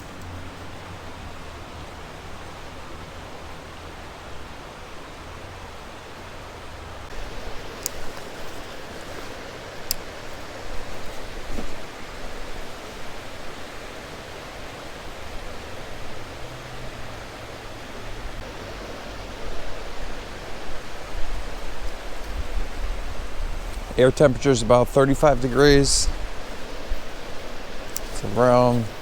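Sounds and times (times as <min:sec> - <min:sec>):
creek water running: 0:00.0 - 0:29.0.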